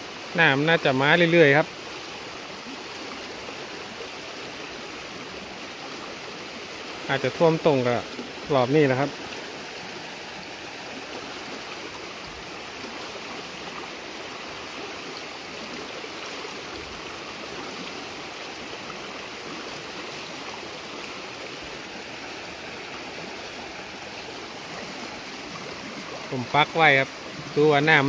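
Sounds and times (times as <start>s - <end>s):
floodwater rushing down a creek: 0.0s - 28.0s.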